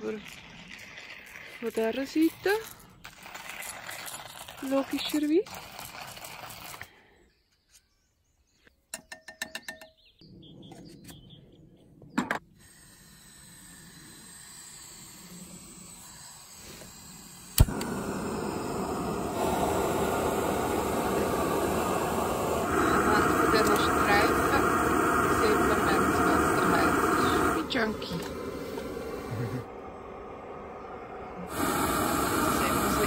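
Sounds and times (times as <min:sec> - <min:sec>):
gas burner hissing: 0:00.0 - 0:06.8, 0:12.5 - 0:33.0.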